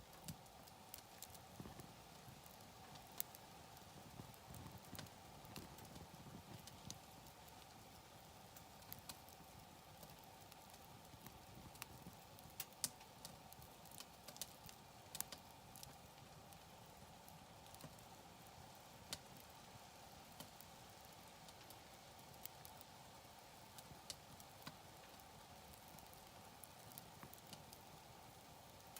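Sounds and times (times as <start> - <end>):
campfire crackling: 0.0 - 28.9
faint background hiss: 0.0 - 28.9.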